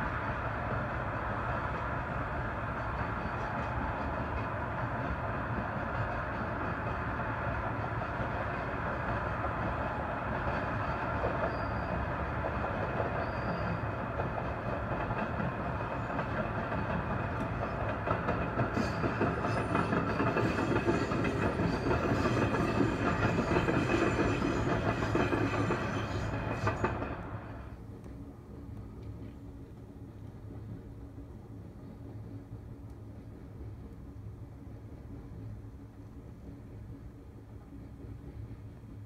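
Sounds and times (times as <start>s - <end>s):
commuter train wheels clattering: 0.0s - 39.0s
freight train wheel rumble: 0.0s - 39.0s.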